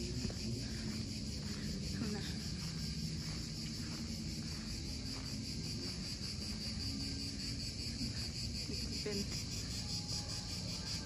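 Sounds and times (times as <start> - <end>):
insect chorus pulsing trill: 0.0 - 11.0.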